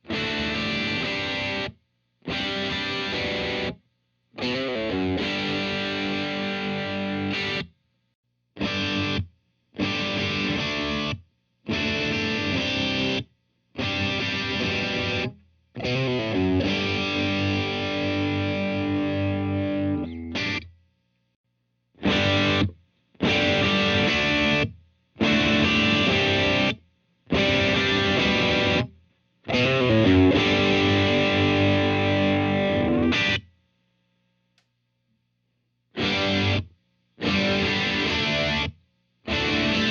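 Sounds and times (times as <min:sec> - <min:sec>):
distorted electric guitar chords: 0:00.1 - 0:01.7, 0:02.3 - 0:03.8, 0:04.4 - 0:07.7, 0:08.6 - 0:20.7, 0:22.0 - 0:33.4, 0:36.0 - 0:39.9.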